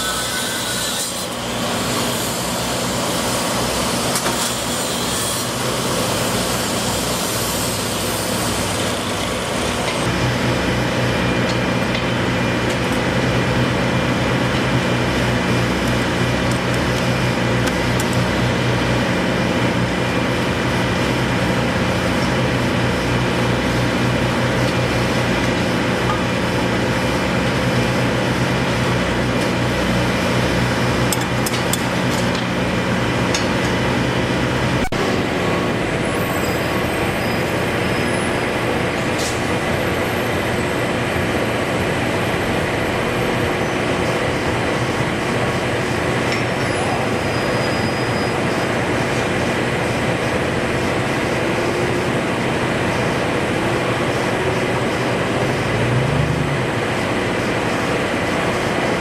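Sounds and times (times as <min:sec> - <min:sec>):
mechanical traffic-like noise: 0:00.0 - 0:59.0.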